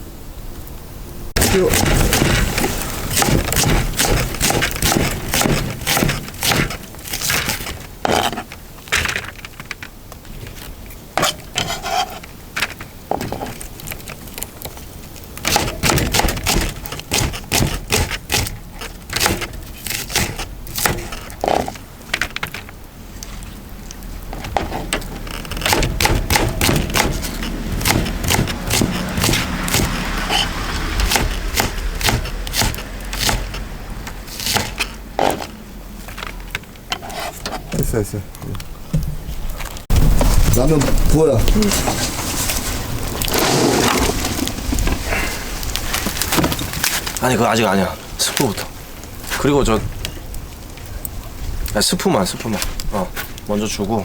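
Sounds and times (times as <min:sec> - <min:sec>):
wood fire crackling: 0:00.4 - 0:54.0
wood knocking and scraping: 0:01.4 - 0:47.6.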